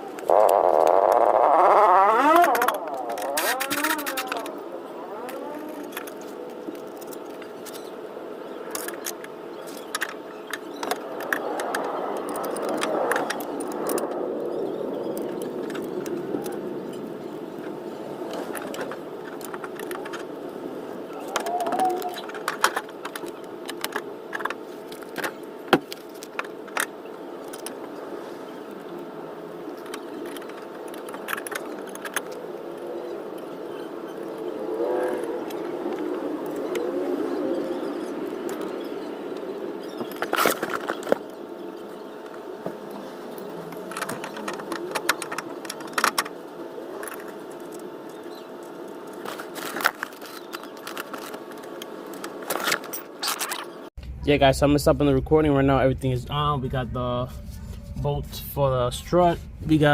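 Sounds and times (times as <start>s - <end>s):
background hum: 0.0s - 59.9s.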